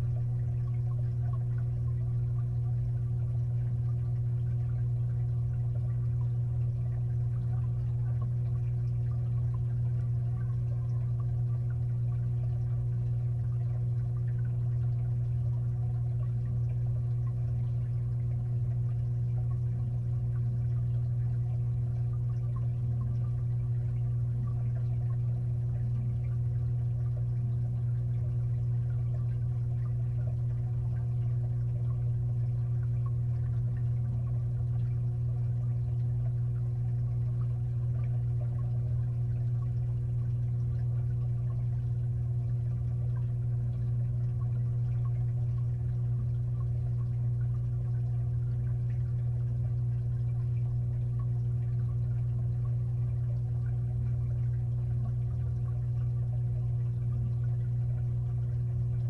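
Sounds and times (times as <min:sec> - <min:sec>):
aquarium filter humming underwater: 0:00.0 - 0:59.0
moving water: 0:00.0 - 0:59.0.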